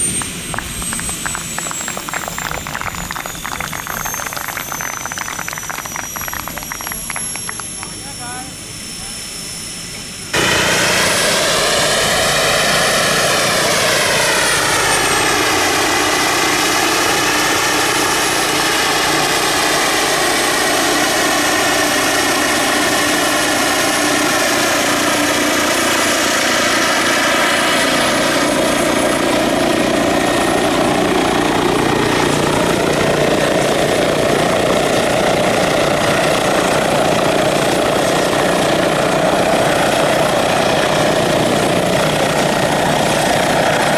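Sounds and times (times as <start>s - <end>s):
model helicopter rotor whine: 0.0s - 43.9s.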